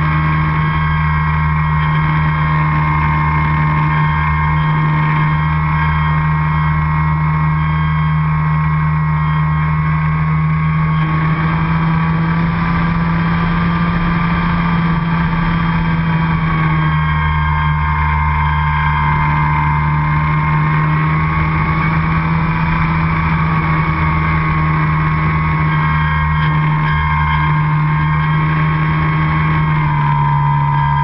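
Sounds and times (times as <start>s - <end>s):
model airplane motor drone: 0.0s - 31.0s.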